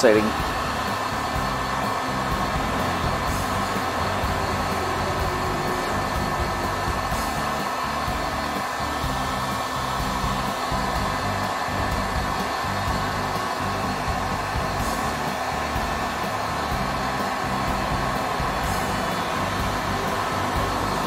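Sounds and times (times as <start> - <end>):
heat gun blower rushing: 0.0 - 21.0.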